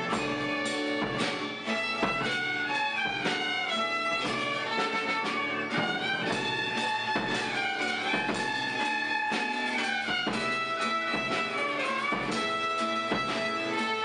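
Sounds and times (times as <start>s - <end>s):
drum kit beat: 0.0s - 14.0s
violins playing melody: 0.0s - 14.0s.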